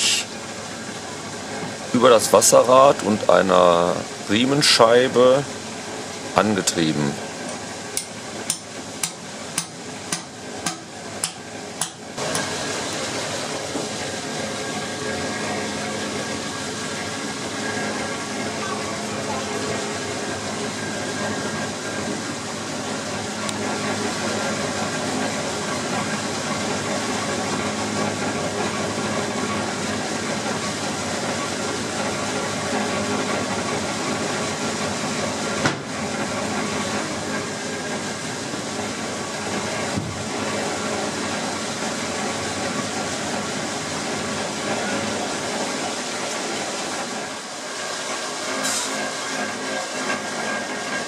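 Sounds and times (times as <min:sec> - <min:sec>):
sawmill machinery running: 0:00.0 - 0:51.0.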